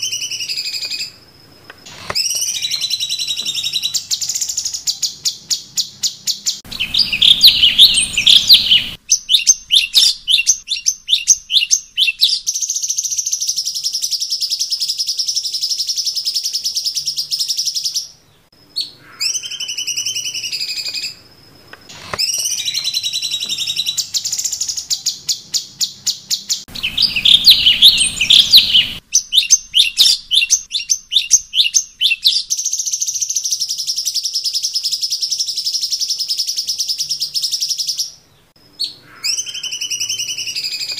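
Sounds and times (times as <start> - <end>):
bulbul song with sharp chirps: 0.0 - 40.9
sliding whistled bird notes: 1.8 - 17.9, 21.9 - 38.0, 38.8 - 40.9.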